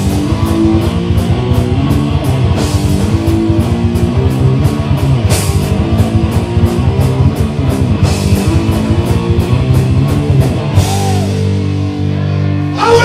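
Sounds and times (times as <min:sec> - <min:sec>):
heavy metal band playing: 0:00.0 - 0:13.0.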